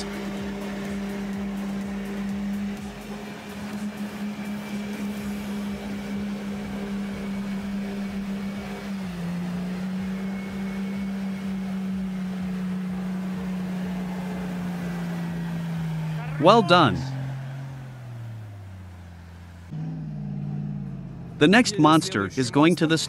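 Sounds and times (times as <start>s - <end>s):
engine droning at high revs: 0.0s - 23.0s.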